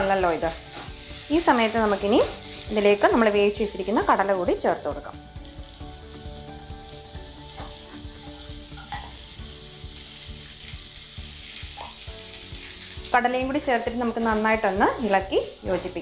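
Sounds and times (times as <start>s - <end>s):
vegetables sizzling in frying pan: 0.0s - 16.0s.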